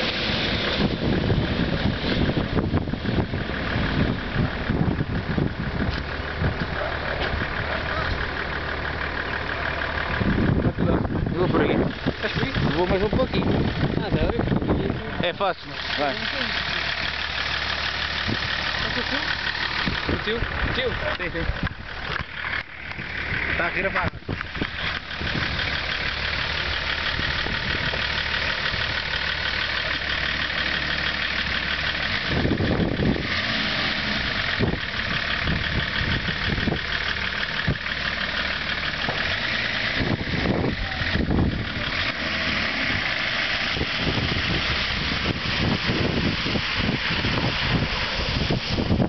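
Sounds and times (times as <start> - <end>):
car engine running: 0.0 - 49.0.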